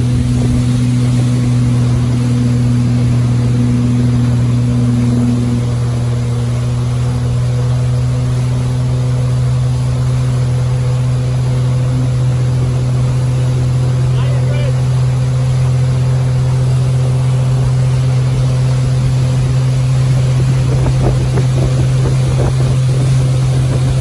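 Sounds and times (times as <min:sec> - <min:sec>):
boat engine humming: 0:00.0 - 0:24.0
wake water rushing: 0:00.0 - 0:24.0
wind: 0:00.0 - 0:24.0.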